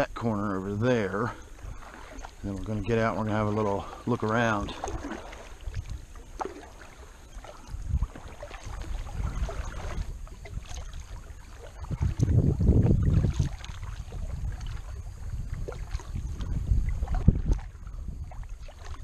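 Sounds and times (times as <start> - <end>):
paddle strokes in water: 0.0 - 19.0
wind rumble on microphone: 0.0 - 19.0.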